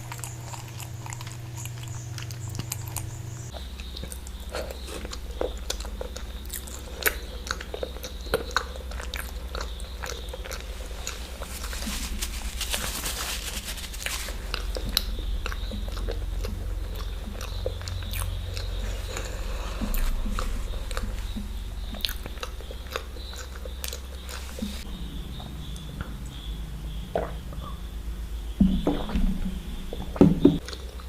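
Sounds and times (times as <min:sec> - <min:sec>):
chewing and biting: 0:00.0 - 0:26.5, 0:30.6 - 0:31.0
steady low hum: 0:00.0 - 0:31.0.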